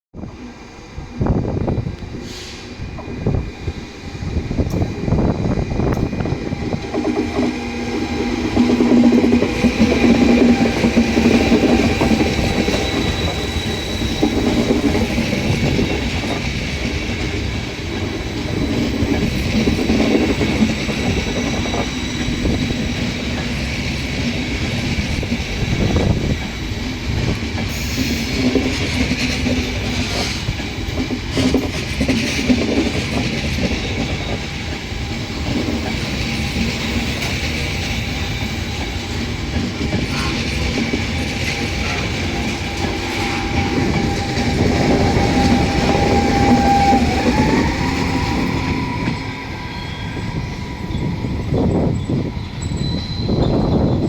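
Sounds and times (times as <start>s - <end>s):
train rumble: 0.2s - 54.0s
train wheels clacking over rail joints: 5.9s - 49.2s.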